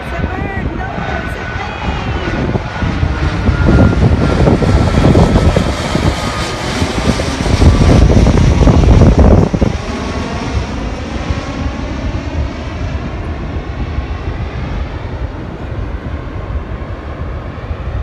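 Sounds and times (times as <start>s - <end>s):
small airplane engine passing: 0.0s - 18.0s.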